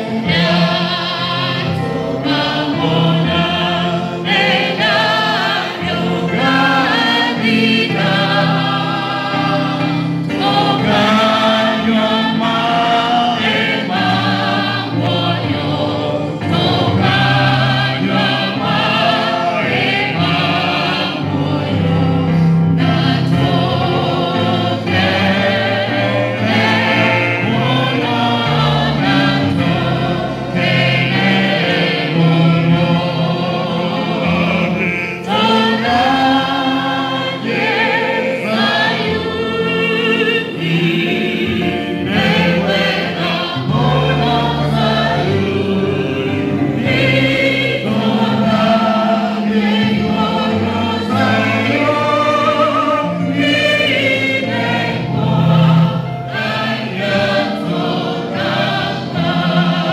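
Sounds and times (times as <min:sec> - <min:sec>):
choir singing along: 0:00.0 - 0:59.9
man and woman singing a hymn: 0:00.0 - 0:59.9.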